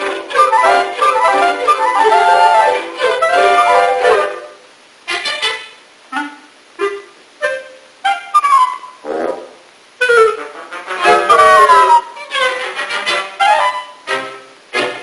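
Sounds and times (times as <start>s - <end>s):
cartoon orchestral music: 0.0s - 15.0s.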